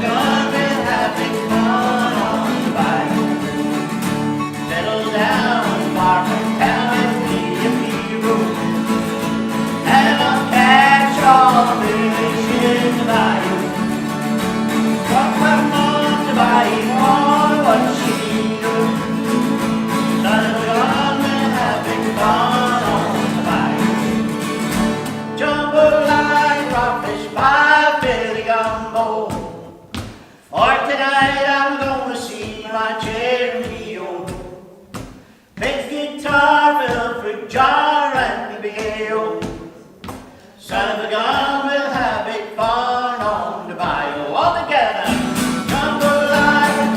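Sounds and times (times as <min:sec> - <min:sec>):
strummed acoustic guitar: 0:00.0 - 0:46.9.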